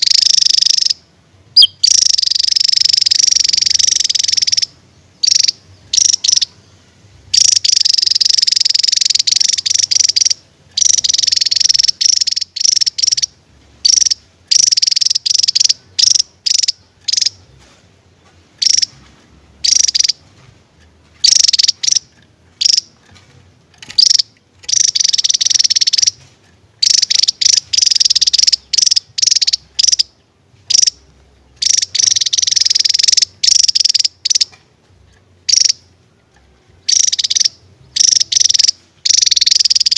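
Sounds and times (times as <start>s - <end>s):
bird singing drilling trills: 0.0s - 19.0s, 19.6s - 20.3s, 21.2s - 23.2s, 23.8s - 26.2s, 26.8s - 34.6s, 35.4s - 36.1s, 36.8s - 39.9s.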